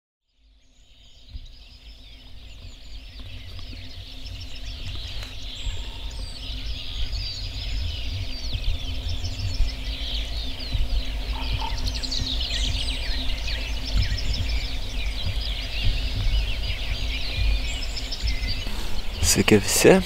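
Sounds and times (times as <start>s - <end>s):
birds singing and chirping: 0.3s - 20.0s
low rumble: 0.9s - 20.0s.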